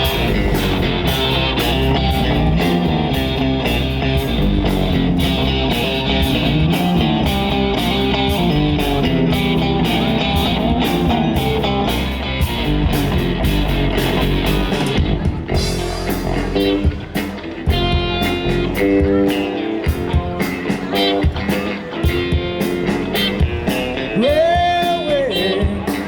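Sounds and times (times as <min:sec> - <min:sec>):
electric guitar: 0:00.0 - 0:26.0
rock band playing live: 0:00.0 - 0:26.0.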